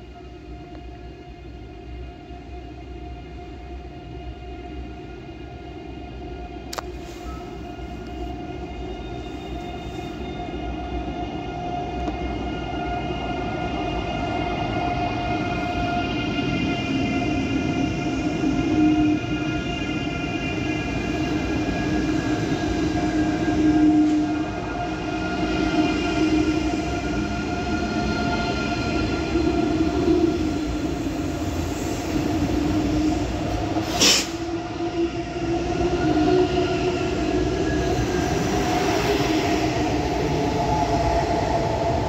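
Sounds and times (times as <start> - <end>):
steady whining tones: 0.0 - 33.8
train rumbling past: 0.0 - 42.0.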